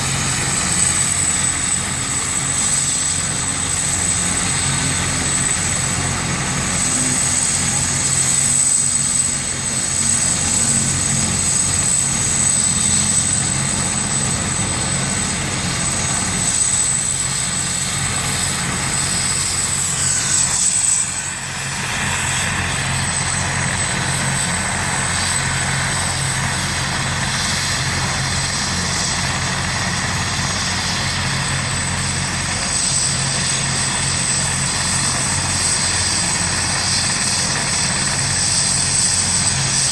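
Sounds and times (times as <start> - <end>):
helicopter rotor and engine: 0.0 - 39.9
high whine: 0.0 - 39.9.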